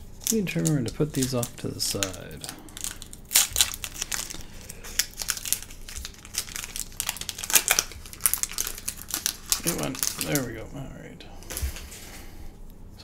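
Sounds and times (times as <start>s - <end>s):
foil wrapper crinkling: 0.0s - 10.7s.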